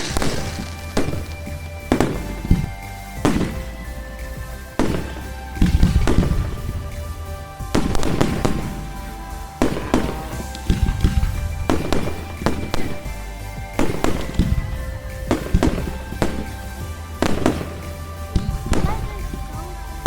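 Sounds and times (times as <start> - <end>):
firework shells bursting: 0.0 - 20.0
rumble and crackle of fireworks: 0.0 - 20.0.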